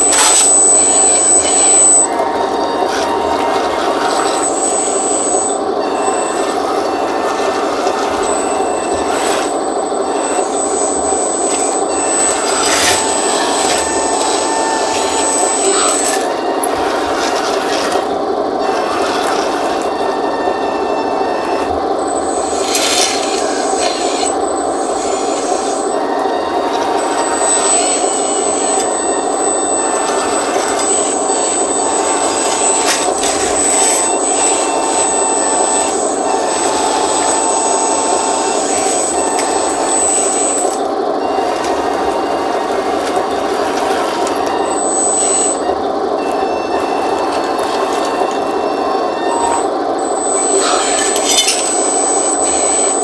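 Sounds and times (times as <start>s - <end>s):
rc loader rasping buzz: 0.0s - 53.0s
thin high whine: 0.0s - 53.0s.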